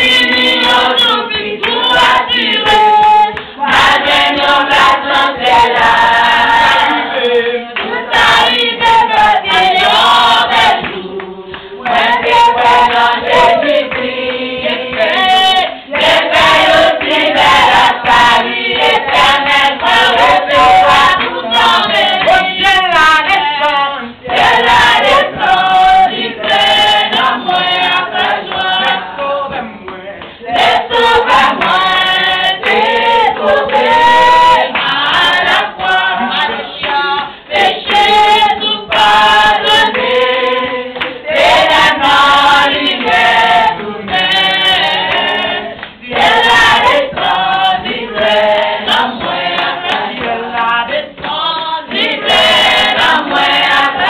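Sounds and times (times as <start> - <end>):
group singing a worship song: 0.0 - 54.0
hand clapping: 0.1 - 5.9, 7.8 - 23.6, 24.3 - 54.0.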